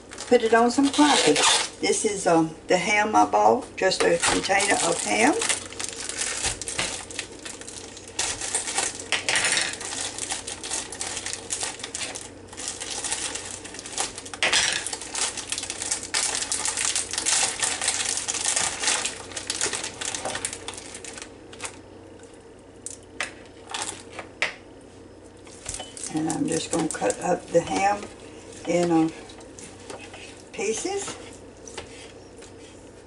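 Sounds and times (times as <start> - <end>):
plastic wrap crinkling: 0.0 - 1.8, 4.0 - 24.3, 25.4 - 32.6.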